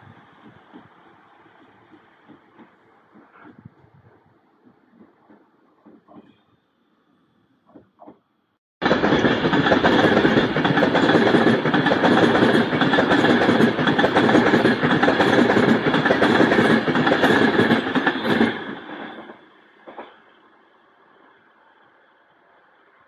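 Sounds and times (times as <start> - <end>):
electric train passing at speed: 0.0 - 8.2, 8.8 - 23.0.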